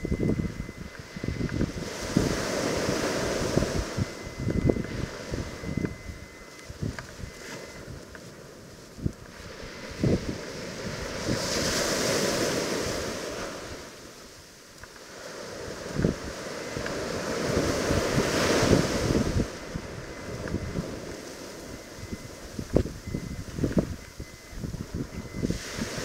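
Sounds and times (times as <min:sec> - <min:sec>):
surf breaking on a beach: 0:00.0 - 0:26.0
wind buffeting the microphone: 0:00.0 - 0:26.0.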